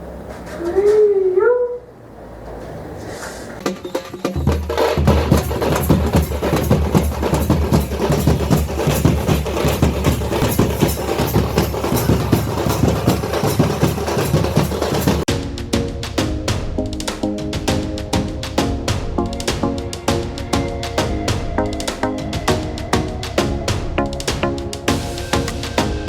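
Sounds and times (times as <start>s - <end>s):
upbeat music with heavy bass: 4.4s - 26.0s.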